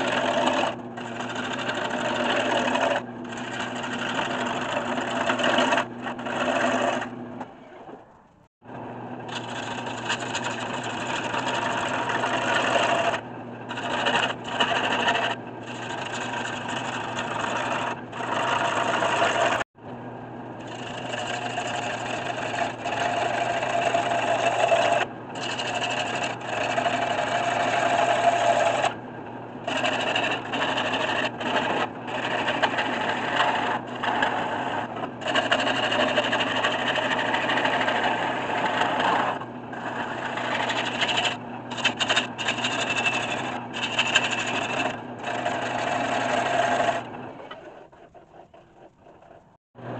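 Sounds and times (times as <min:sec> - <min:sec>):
lathe motor hum: 0:00.0 - 0:07.2, 0:08.7 - 0:49.9.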